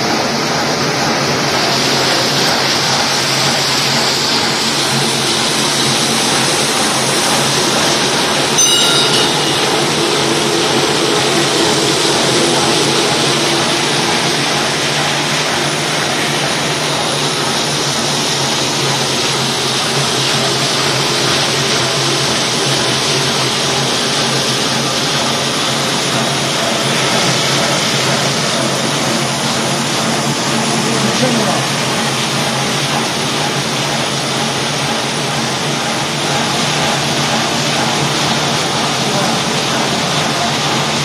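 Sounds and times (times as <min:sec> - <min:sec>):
machine motors humming and whirring: 0:00.0 - 0:41.0.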